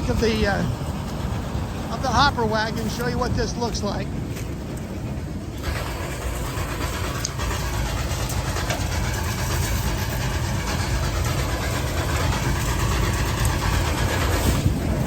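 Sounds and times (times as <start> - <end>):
corn picker sheller turning: 0.0 - 15.0
tractor diesel engine running: 0.0 - 15.0.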